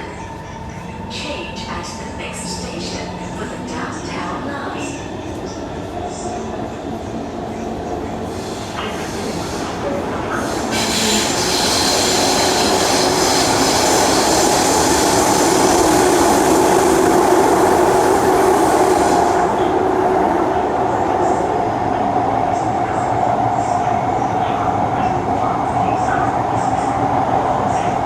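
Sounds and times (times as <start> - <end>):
train wheels rumbling on rail: 0.3 - 28.0.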